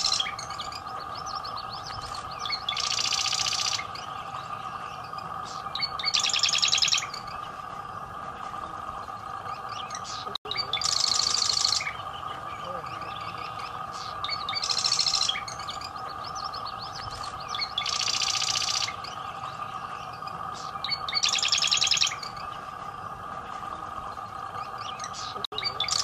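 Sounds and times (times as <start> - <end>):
soft ticking bird notes: 0.0 - 26.0
steady hum: 0.0 - 26.0
wren rattling trills: 0.0 - 26.0.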